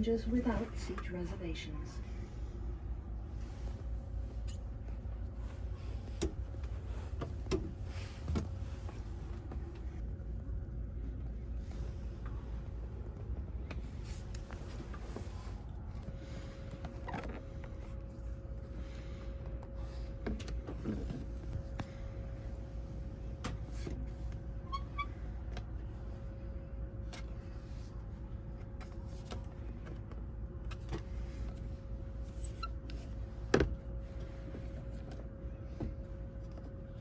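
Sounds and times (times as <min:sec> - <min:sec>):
train car low hum: 0:00.0 - 0:37.0.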